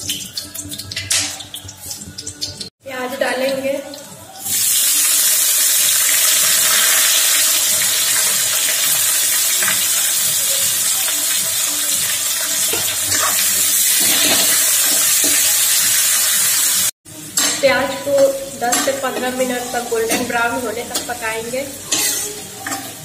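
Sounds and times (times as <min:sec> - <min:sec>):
onions sizzling in hot oil: 0:03.3 - 0:23.0.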